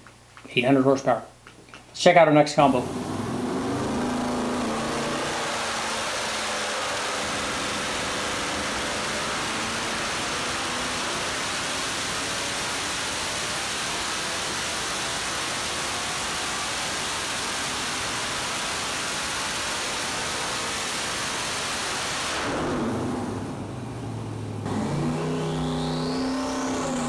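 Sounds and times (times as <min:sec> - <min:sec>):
engine running on a dyno: 0:02.6 - 0:27.0.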